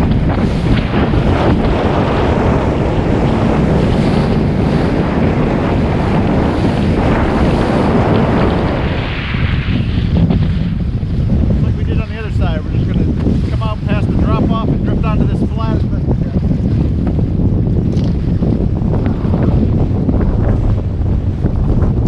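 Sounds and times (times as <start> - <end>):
gusting wind on microphone: 0.0 - 22.0
loud steady rumble: 0.0 - 22.0
waves splashing: 0.0 - 22.0.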